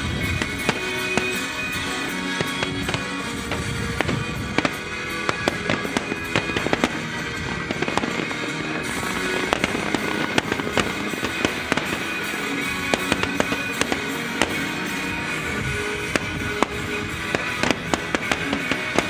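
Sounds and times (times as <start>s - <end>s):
fireworks bursting with crackling: 0.0s - 19.0s
music playing: 0.0s - 19.0s.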